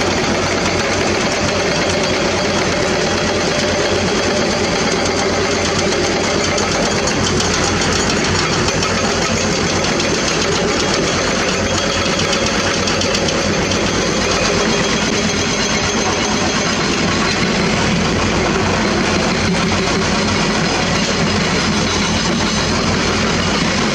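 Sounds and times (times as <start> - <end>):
excavator diesel engines droning: 0.0 - 23.9.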